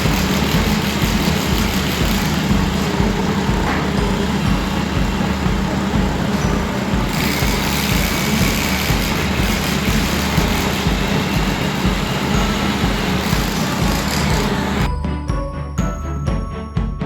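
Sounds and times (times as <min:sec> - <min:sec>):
heavy engine running: 0:00.0 - 0:15.0.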